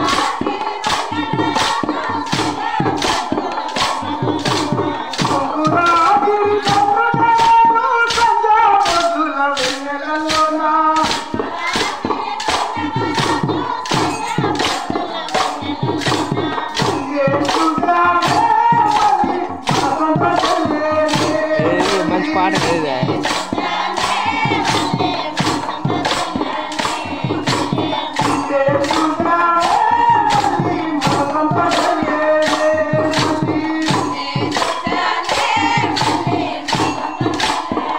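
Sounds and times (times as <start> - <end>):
devotional song: 0.0 - 37.9.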